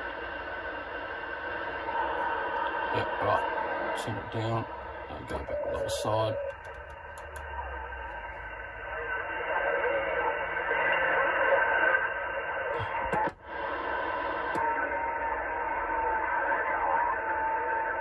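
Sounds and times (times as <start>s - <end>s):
radio static and hiss: 0.0s - 18.0s
radio tuning clicks: 0.0s - 18.0s
distant radio voices: 0.1s - 18.0s.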